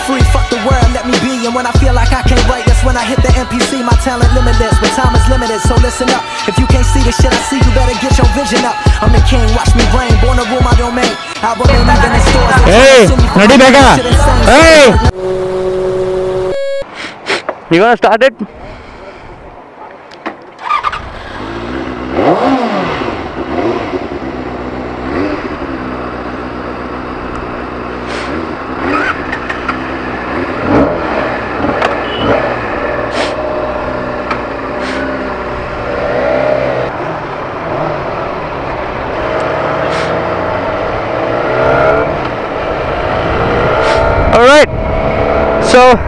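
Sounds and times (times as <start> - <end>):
motorcycle engine revving: 0.0 - 16.6, 20.6 - 46.0.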